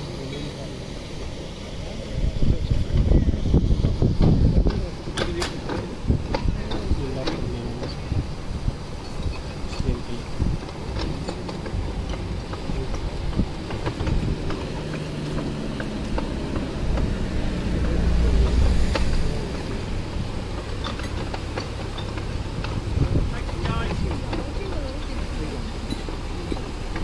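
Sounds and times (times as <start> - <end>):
boat diesel engine idling: 0.0 - 27.0
wind buffeting microphone: 1.7 - 27.0.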